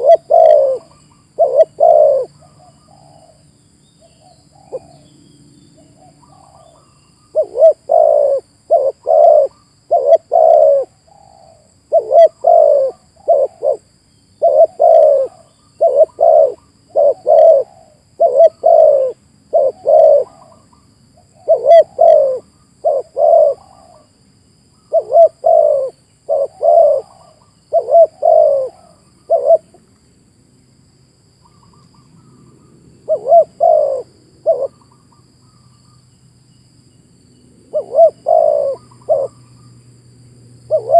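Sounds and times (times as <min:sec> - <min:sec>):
dove cooing: 0:00.0 - 0:03.4, 0:04.1 - 0:05.1, 0:05.8 - 0:24.1, 0:24.9 - 0:29.8, 0:31.4 - 0:35.7, 0:37.6 - 0:39.8, 0:40.7 - 0:40.9.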